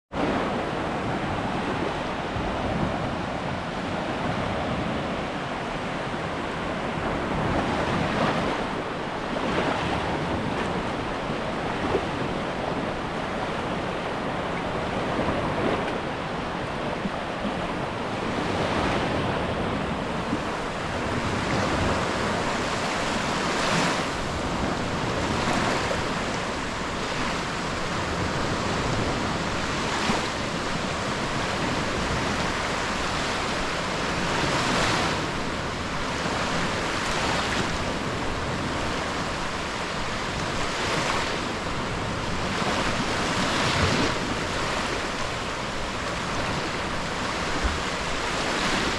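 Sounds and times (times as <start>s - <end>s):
wind on microphone: 0.1s - 48.9s
sea waves washing onto beach: 0.2s - 48.9s.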